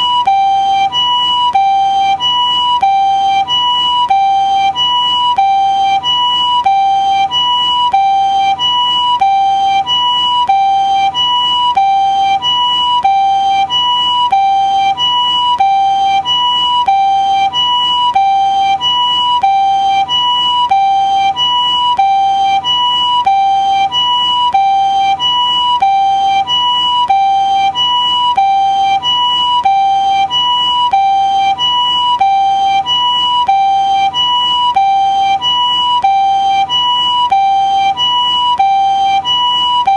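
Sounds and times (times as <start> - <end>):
ambulance two-tone siren: 0.0 - 39.9.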